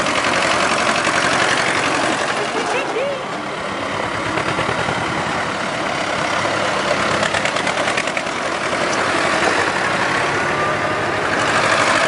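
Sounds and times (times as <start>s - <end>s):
tractor diesel engine passing: 0.0s - 12.0s.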